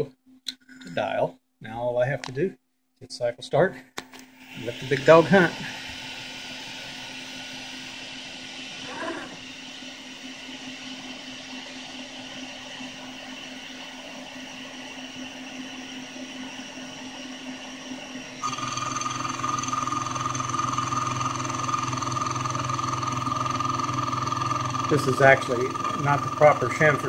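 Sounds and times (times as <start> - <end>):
milling machine motor whine: 4.4 - 27.0.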